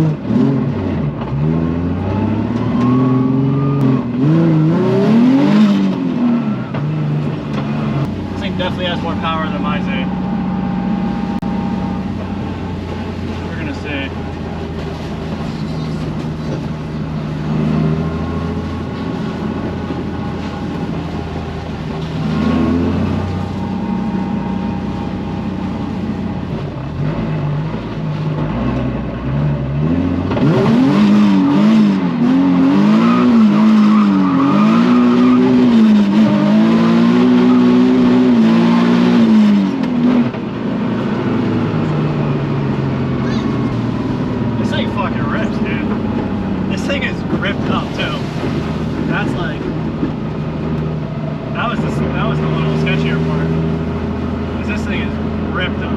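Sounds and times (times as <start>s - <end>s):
car engine revving hard: 0.0s - 55.9s.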